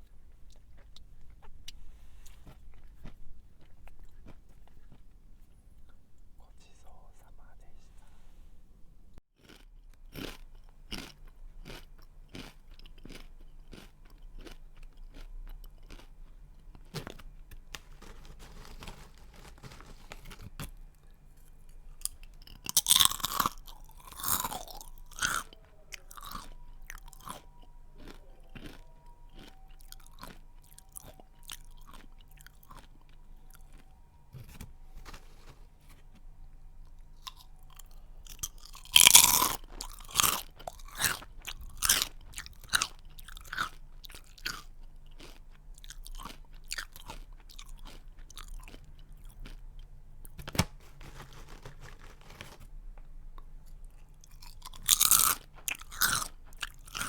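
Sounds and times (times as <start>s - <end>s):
person chewing crunchy snack: 0.0s - 6.0s, 9.4s - 50.4s, 53.4s - 57.0s.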